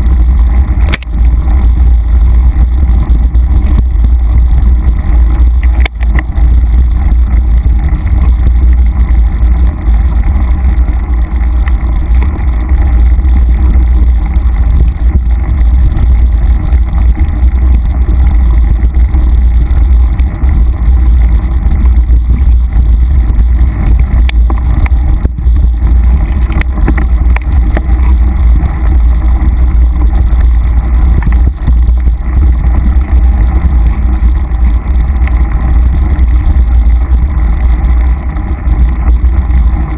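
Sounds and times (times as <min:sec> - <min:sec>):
bike clicks and rattles: 0:00.0 - 0:39.9
wind rumble on microphone: 0:00.0 - 0:39.9.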